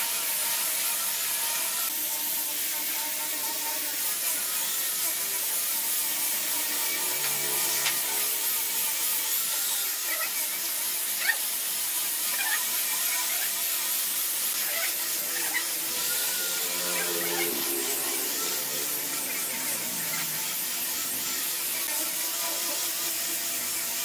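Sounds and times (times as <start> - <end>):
power tool cutting wood: 0.0 - 24.0.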